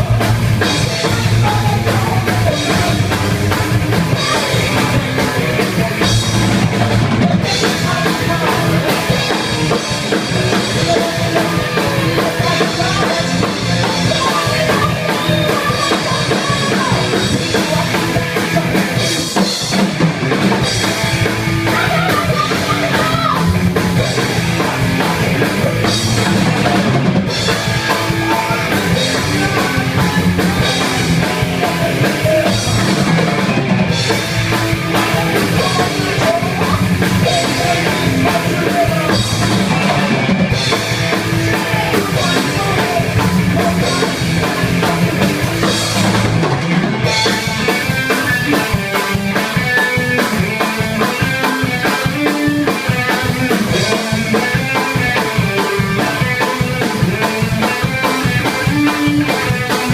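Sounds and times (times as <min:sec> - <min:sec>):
driving drum kit: 0:00.0 - 0:59.9
loud rock music: 0:00.0 - 0:59.9.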